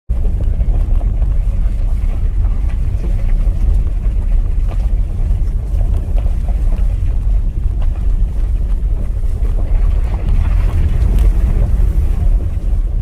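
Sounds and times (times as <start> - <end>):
tyres rumbling on gravel: 0.1 - 13.0.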